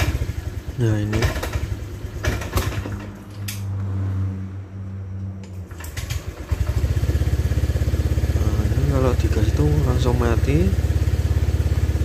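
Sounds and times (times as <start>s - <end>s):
scooter engine sputtering: 0.0s - 3.3s, 5.6s - 12.0s.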